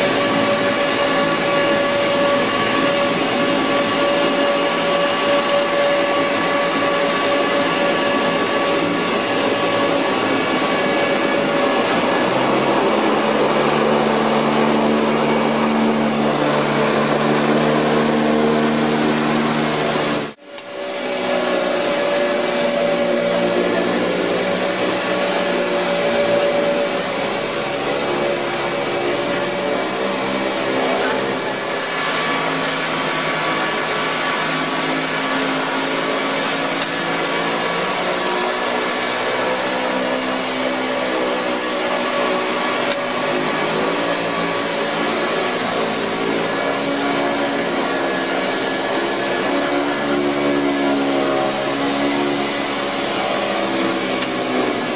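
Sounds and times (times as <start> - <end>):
propeller engines droning: 0.0 - 54.9.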